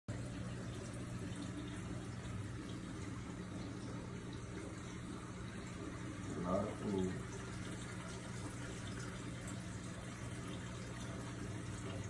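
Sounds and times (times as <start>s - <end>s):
aquarium pump hum and water: 0.1s - 12.0s.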